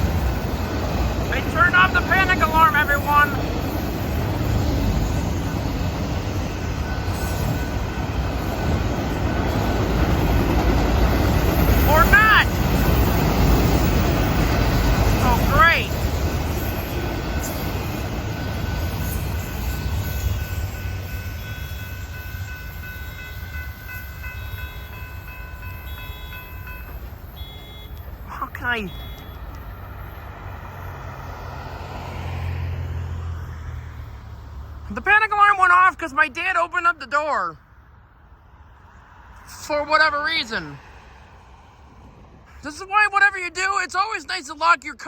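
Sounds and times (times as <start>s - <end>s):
freight train cars rumbling past: 0.0s - 45.0s.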